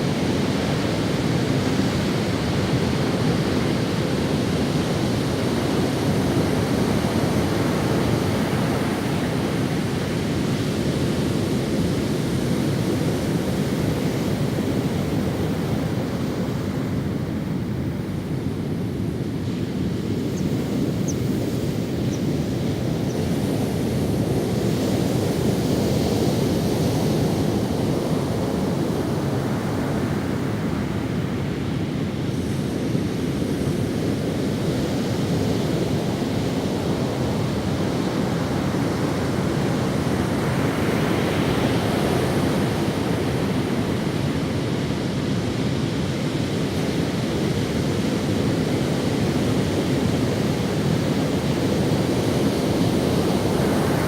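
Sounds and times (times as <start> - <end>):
wind on microphone: 0.0 - 54.0
ocean waves breaking: 0.1 - 54.0.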